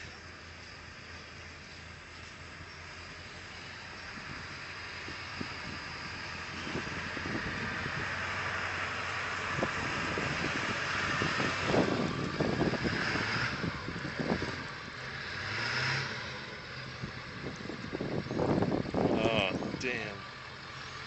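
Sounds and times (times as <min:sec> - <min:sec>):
car engine running: 0:00.0 - 0:21.0
tyres on snow: 0:00.0 - 0:21.0.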